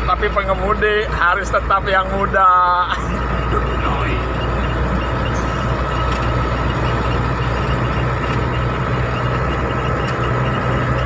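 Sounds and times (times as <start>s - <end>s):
old vehicle engine running: 0.0s - 11.0s.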